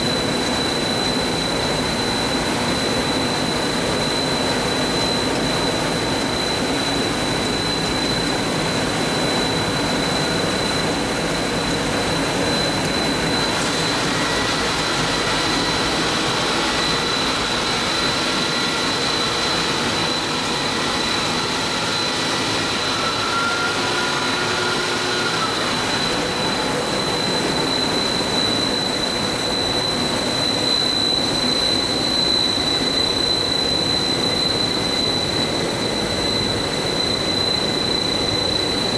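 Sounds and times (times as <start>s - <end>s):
high-pitched machine whine: 0.0s - 38.9s.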